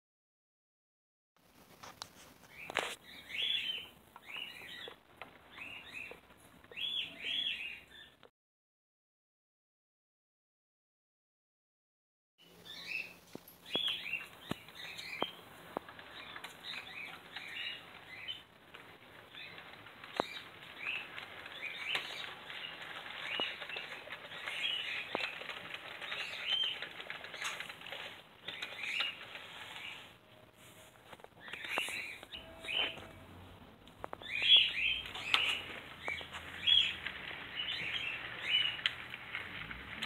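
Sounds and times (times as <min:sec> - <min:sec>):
small birds chirping: 0:02.0 - 0:08.3, 0:12.4 - 0:40.0.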